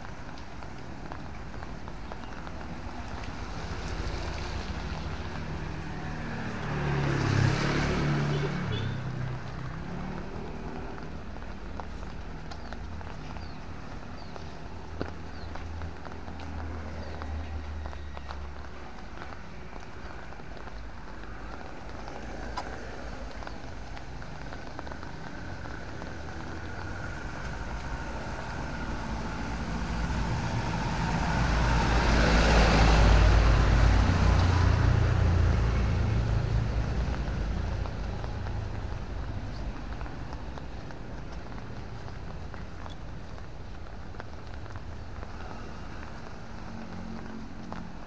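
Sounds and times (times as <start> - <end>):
vehicle passing on wet road: 0.0 - 48.0.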